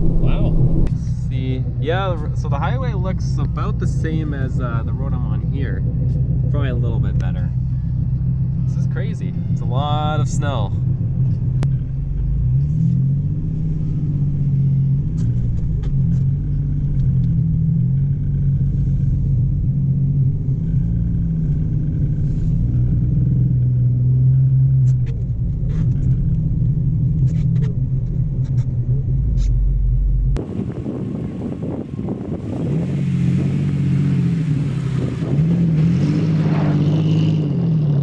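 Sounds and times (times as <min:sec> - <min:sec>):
pickup truck engine droning: 0:00.0 - 0:38.0.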